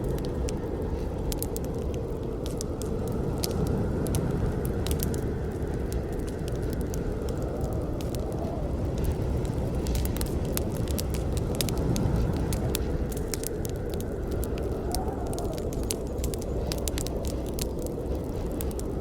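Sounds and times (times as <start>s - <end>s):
campfire low rush: 0.0s - 19.0s
wood crackling and popping: 0.0s - 19.0s.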